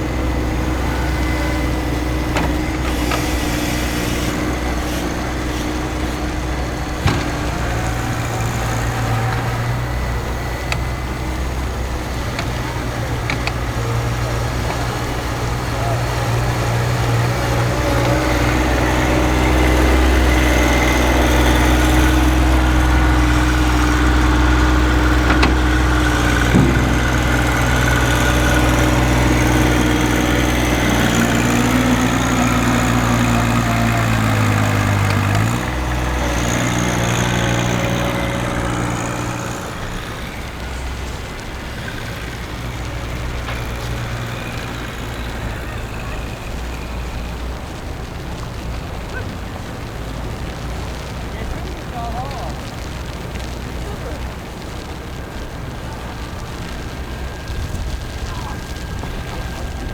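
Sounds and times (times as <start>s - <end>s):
heavy vehicle engine idling: 0.0s - 59.9s.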